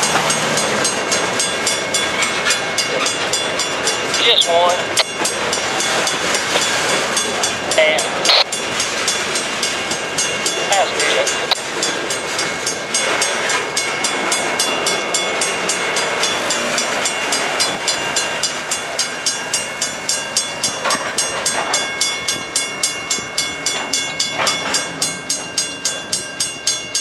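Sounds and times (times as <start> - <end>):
crossing warning bell ringing: 0.0 - 27.0
freight cars rumbling: 0.0 - 27.0.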